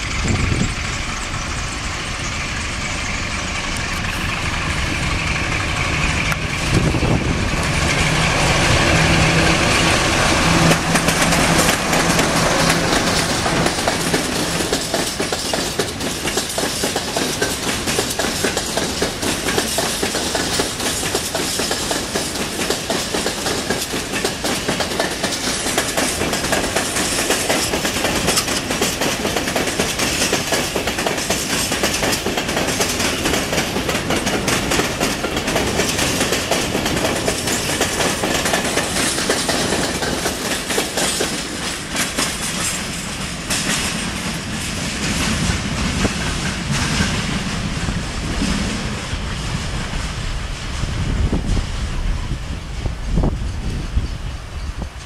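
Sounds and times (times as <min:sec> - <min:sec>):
train wheels clacking over rail joints: 0:00.0 - 0:55.0.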